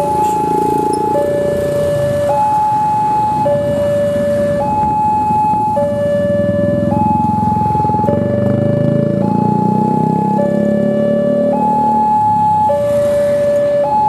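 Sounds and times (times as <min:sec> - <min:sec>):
motorcycle engines idling: 0:00.0 - 0:12.1
level crossing two-tone alarm: 0:00.0 - 0:14.0.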